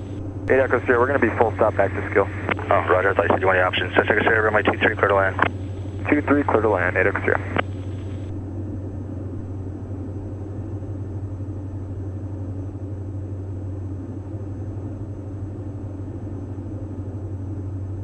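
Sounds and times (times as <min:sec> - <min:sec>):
aircraft engines droning in cabin: 0:00.0 - 0:18.0.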